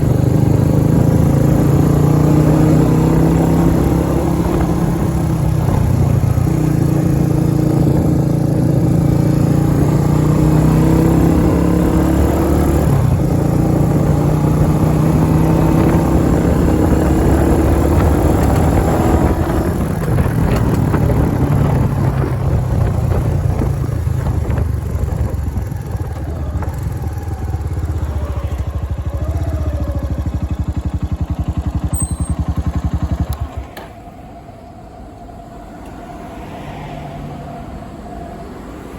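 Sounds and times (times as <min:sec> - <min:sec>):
vehicle engine running loudly: 0:00.0 - 0:34.1.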